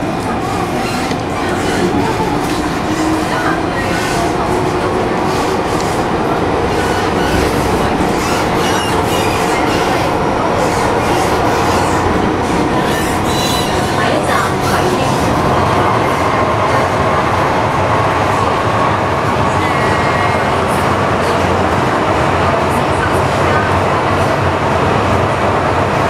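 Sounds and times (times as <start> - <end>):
train rail running noise: 0.0 - 26.0.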